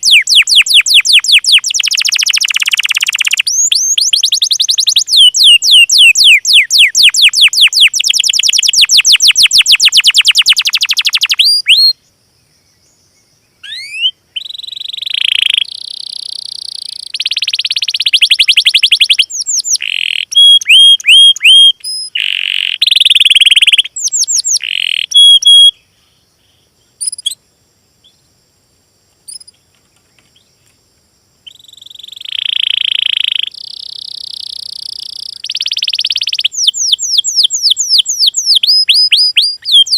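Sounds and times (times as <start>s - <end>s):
songbird trilling and chirping: 0.0s - 27.4s, 29.2s - 30.7s, 31.4s - 39.9s.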